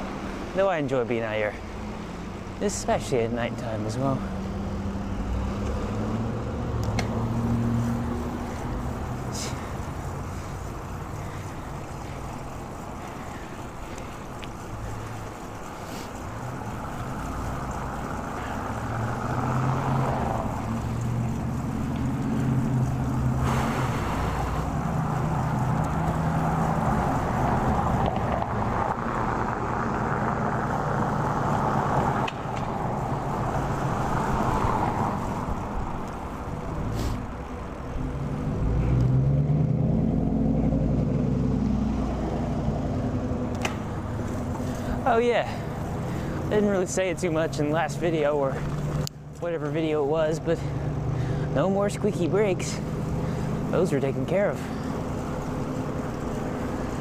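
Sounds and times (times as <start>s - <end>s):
traffic passing on road: 0.0s - 57.0s.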